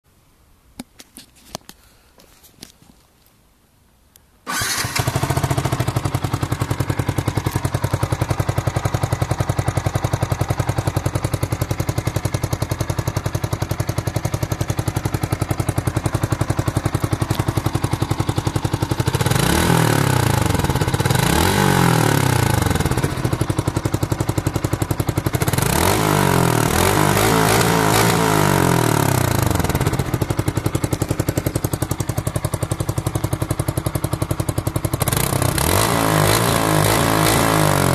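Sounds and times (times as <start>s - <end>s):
motorcycle engine starting and idling: 4.4s - 37.9s
motorcycle engine revving: 4.5s - 37.9s.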